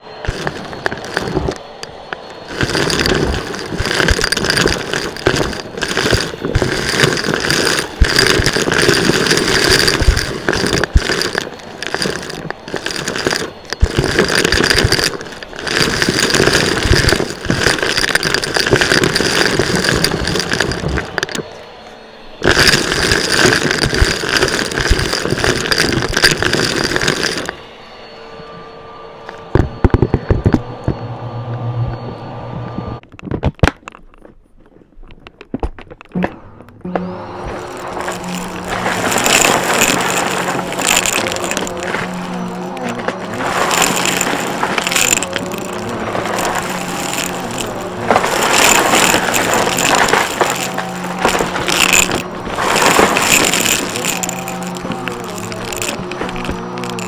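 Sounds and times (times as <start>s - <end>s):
vacuum cleaner running: 0.0s - 33.0s, 36.8s - 57.0s.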